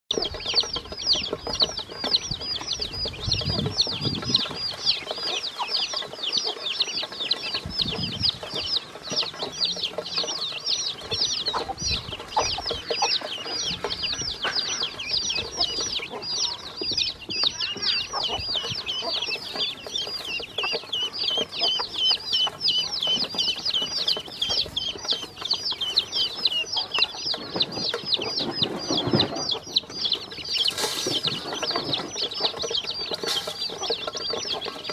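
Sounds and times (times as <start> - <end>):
chicks and ducklings peeping: 0.1 - 34.9.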